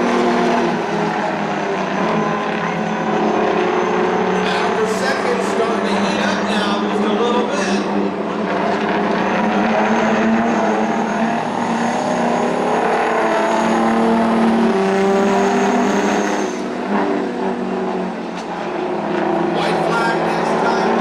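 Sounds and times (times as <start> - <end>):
racing truck diesel engines: 0.0 - 21.0.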